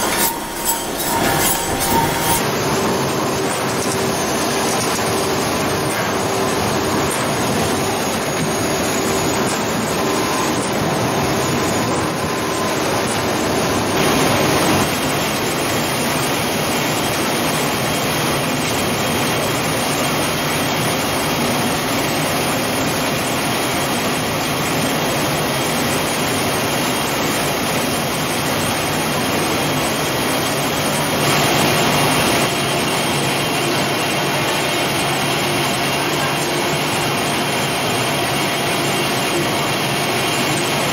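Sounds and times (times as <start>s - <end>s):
machinery rushing hum: 0.0s - 40.9s.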